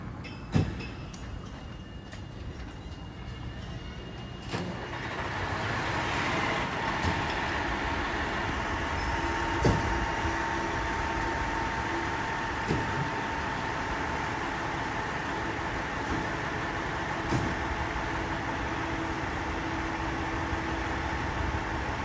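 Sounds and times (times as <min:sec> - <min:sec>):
fire engine running: 0:00.0 - 0:22.0.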